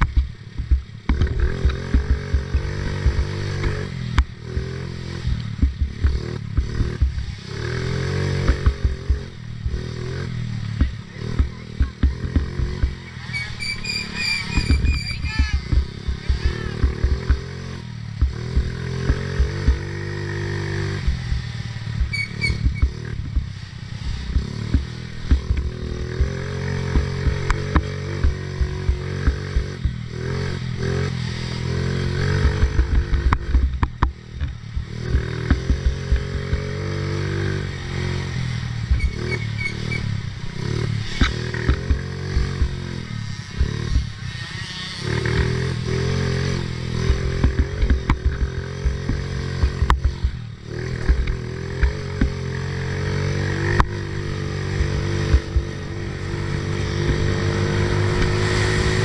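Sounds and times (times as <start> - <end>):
small atv engine revving: 1.1 - 59.0.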